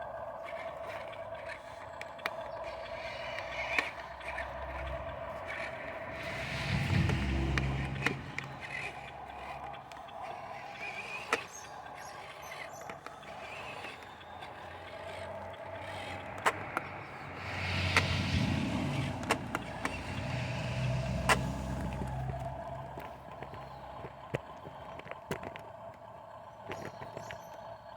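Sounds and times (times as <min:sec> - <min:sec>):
gravel shifting rumble: 0:00.0 - 0:27.9
electric motor whining: 0:00.2 - 0:25.7
sharp clicks: 0:01.0 - 0:25.7.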